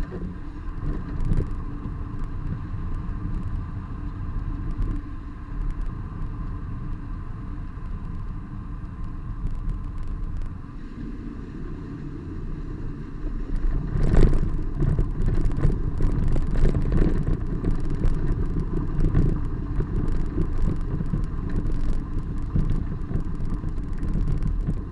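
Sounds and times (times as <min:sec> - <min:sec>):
car road noise rumble: 0:00.0 - 0:24.9.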